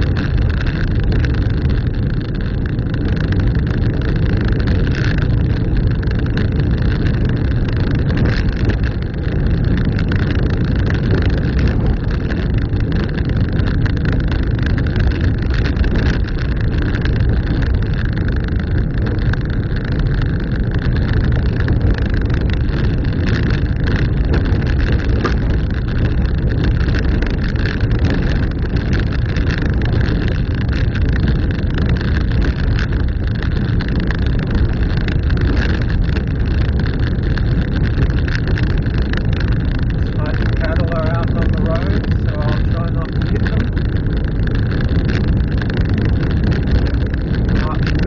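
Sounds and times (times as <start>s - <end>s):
car engine and tyres on dirt road: 0.0s - 48.0s.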